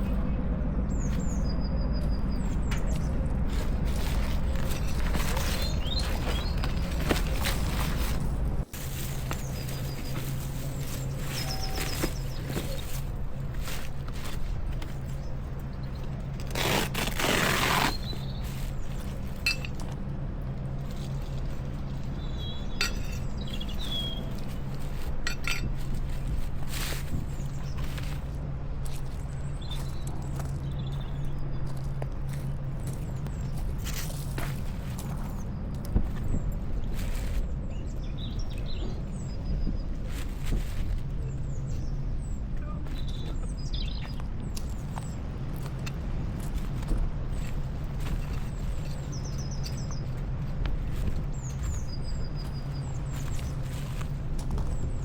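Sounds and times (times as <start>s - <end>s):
small birds chirping: 0.0s - 19.8s, 20.8s - 55.0s
steady low rumble: 0.0s - 55.0s.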